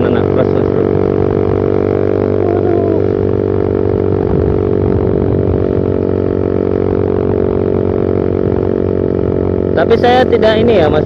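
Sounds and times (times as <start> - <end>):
motorcycle exhaust droning: 0.0 - 11.0.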